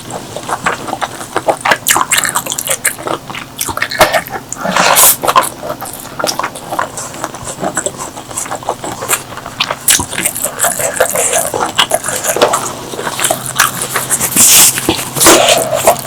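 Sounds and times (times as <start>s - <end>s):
wet chewing and mouth smacks: 0.0s - 16.0s.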